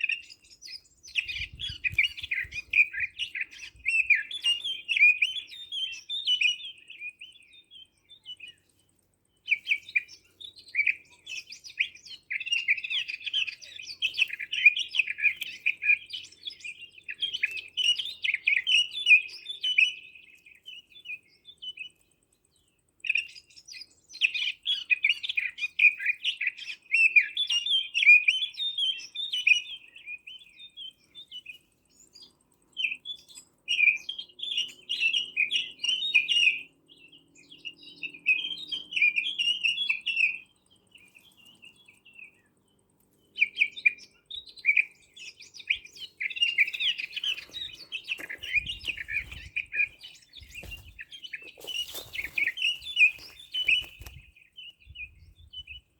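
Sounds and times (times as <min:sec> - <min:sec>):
songbirds chirping and twittering: 0:00.0 - 0:55.9.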